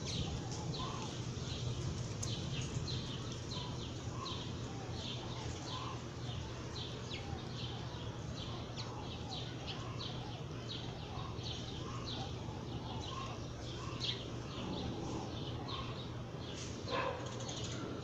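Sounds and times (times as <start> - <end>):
lower bird calls: 0.0 - 18.0
small birds chirping: 0.0 - 18.0
steady low hum: 0.0 - 18.0.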